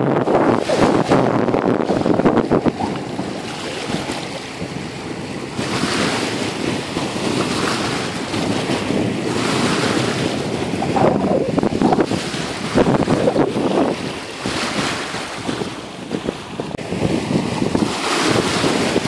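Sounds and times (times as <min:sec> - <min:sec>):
small waves washing: 0:00.0 - 0:19.0
wind buffeting microphone: 0:00.0 - 0:19.0.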